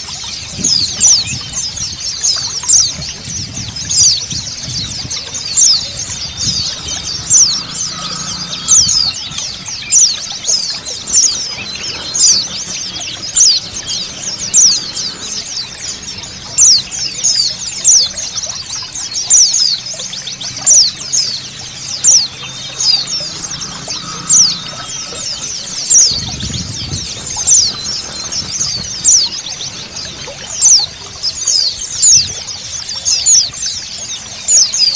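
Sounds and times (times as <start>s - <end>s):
running water hiss: 0.0s - 34.9s
small birds twittering: 0.0s - 34.9s.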